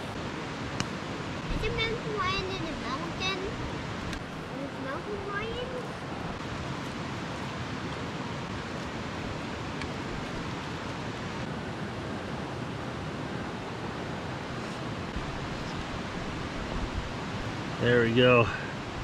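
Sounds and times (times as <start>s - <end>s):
steady outdoor rushing noise: 0.0s - 19.0s.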